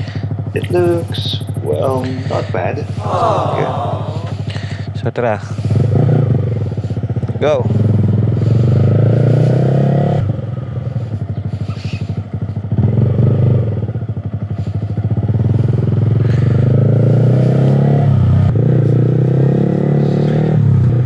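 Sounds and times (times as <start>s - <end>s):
motorcycle engine revving: 0.0s - 3.0s, 3.7s - 21.0s.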